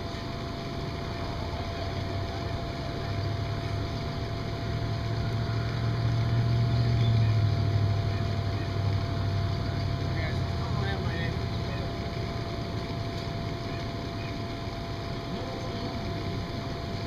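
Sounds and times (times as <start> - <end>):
faint steady whine: 0.0 - 17.0
low motor drone: 0.0 - 17.0.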